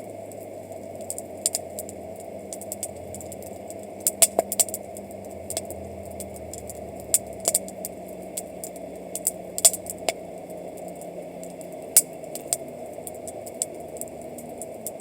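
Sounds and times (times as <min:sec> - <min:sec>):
campfire crackling and popping: 0:00.0 - 0:15.0
steady background hiss: 0:00.0 - 0:15.0.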